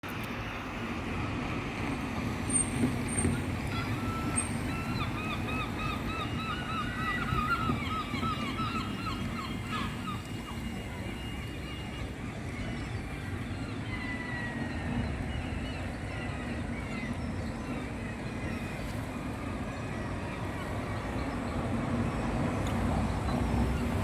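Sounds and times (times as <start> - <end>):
gulls calling: 2.9 - 24.0.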